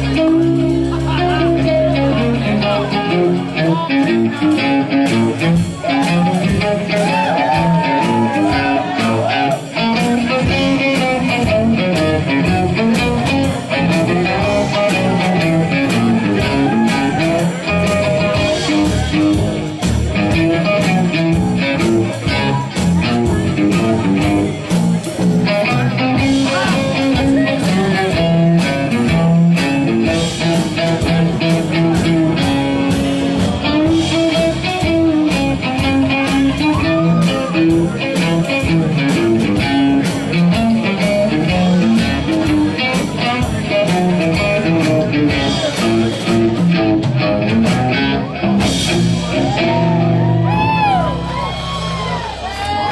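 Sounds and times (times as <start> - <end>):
steady beat: 0.0 - 52.9.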